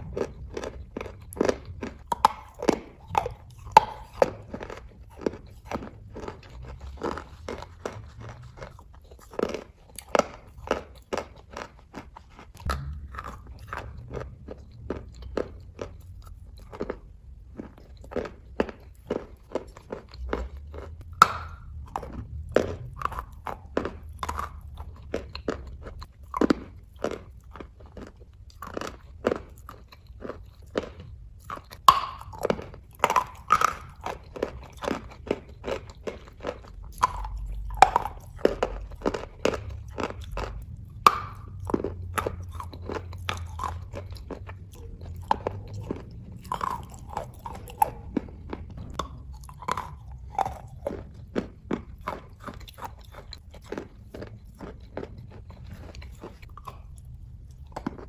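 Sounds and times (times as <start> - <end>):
chewing and crunching chalk: 0.0 - 58.0.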